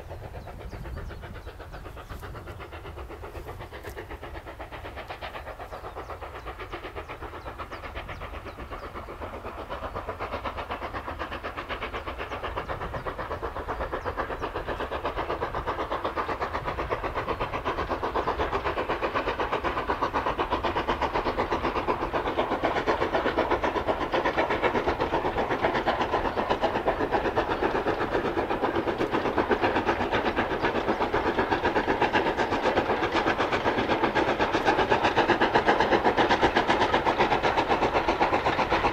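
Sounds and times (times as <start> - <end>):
steam locomotive exhaust beat: 0.0 - 38.9.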